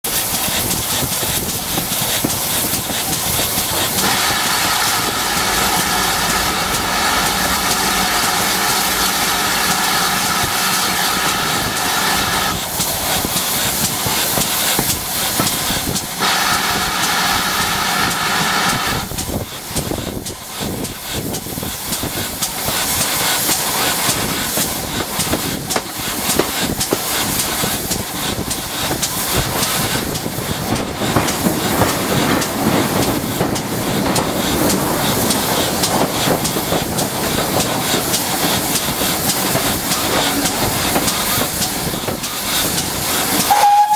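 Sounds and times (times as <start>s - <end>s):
steam hiss: 0.0s - 43.9s
train wheels rumbling on rails: 0.0s - 43.9s.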